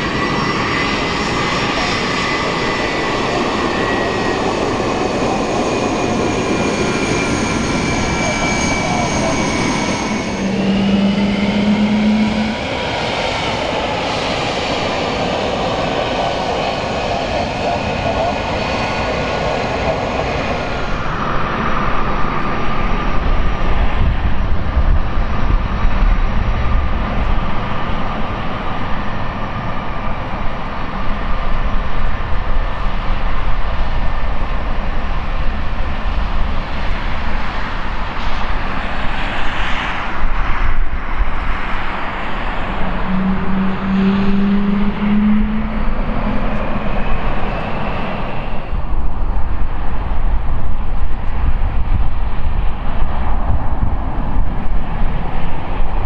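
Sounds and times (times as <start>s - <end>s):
jet engines at taxi power: 0.0s - 56.0s.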